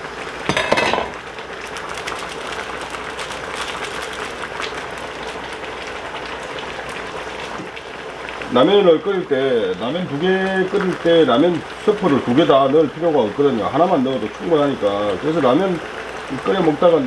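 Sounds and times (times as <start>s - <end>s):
stew boiling in a pot: 0.0s - 17.0s.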